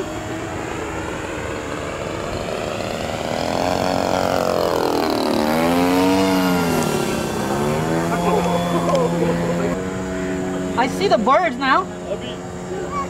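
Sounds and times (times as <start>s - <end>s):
model plane motor buzzing: 0.0s - 13.0s.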